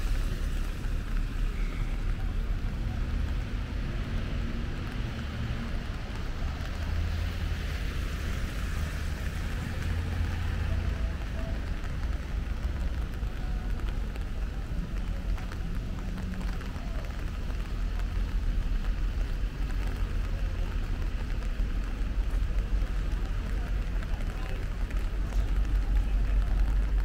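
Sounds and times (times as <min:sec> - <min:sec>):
low traffic rumble: 0:00.0 - 0:27.0
rain hissing on wet pavement: 0:00.0 - 0:27.0.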